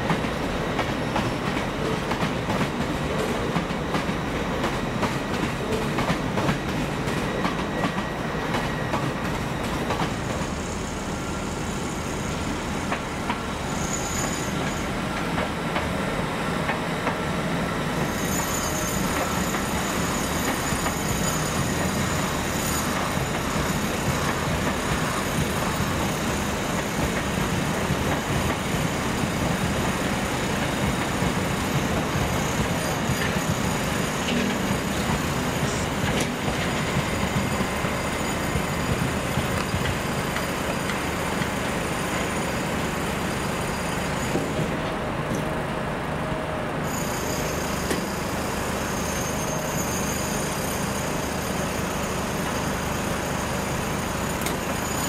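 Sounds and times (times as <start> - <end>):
train running with hiss: 0.0 - 55.0.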